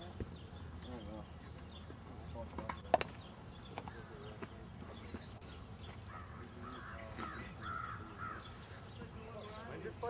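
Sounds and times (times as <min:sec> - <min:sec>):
bird calling: 0:00.2 - 0:09.7.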